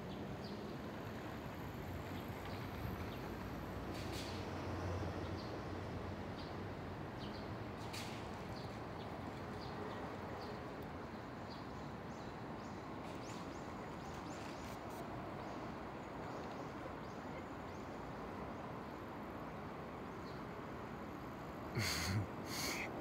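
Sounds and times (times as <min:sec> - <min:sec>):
low rushing background noise: 0:00.0 - 0:23.0.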